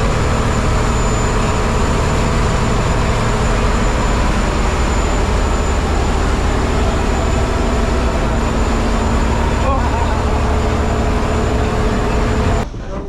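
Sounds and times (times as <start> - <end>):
engine droning: 0.0 - 12.6.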